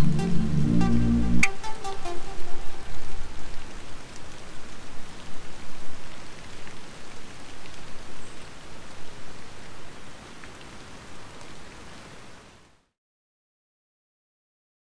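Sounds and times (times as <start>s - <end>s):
rain patter: 0.0s - 12.9s.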